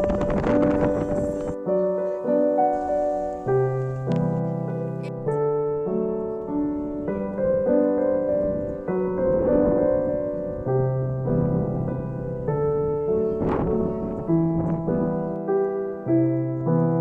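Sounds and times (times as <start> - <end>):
soft slow piano piece: 0.0 - 17.0.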